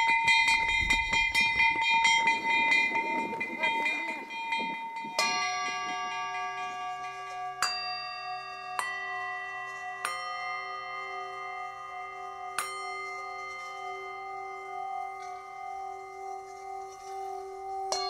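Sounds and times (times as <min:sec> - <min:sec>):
tuned metal bells ringing: 0:00.0 - 0:18.0.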